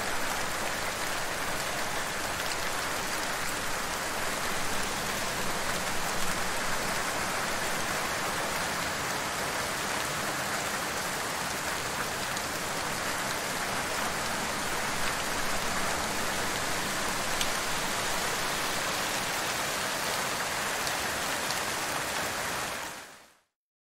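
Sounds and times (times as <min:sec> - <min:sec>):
steady rainfall: 0:00.0 - 0:23.5.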